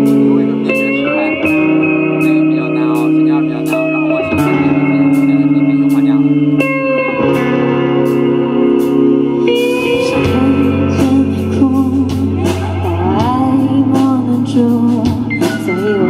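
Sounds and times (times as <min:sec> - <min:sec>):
electric bass: 0:00.0 - 0:16.0
electric guitar chords: 0:00.0 - 0:16.0.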